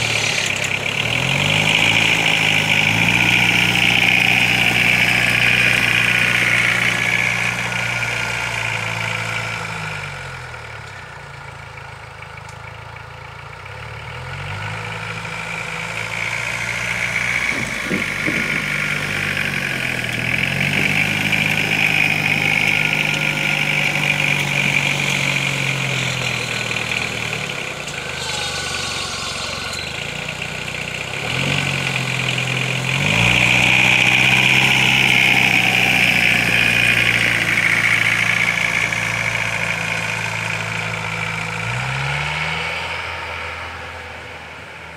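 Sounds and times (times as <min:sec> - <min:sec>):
diesel engine revving: 0:00.0 - 0:44.9.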